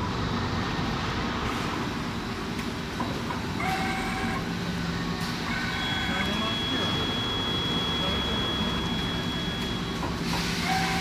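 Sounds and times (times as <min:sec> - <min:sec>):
factory machinery din: 0:01.3 - 0:11.0.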